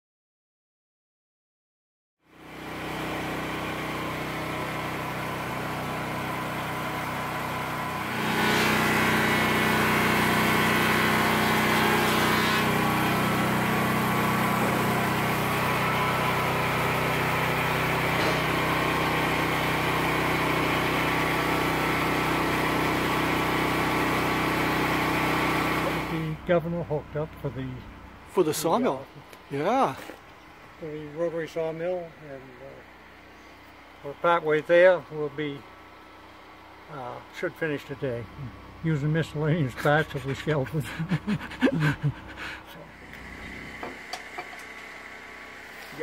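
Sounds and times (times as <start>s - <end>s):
small engine running steadily: 2.2s - 46.0s.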